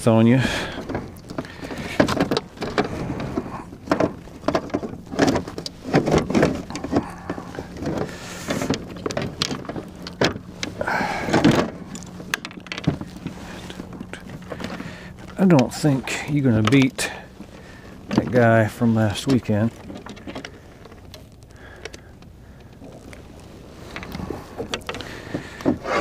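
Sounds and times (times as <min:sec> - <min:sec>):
fish knocking and clattering: 0:00.0 - 0:26.0.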